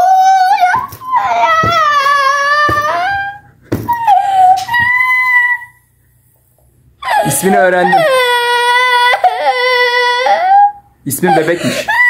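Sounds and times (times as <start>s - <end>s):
young girl crying: 0.0s - 5.8s, 7.0s - 12.0s.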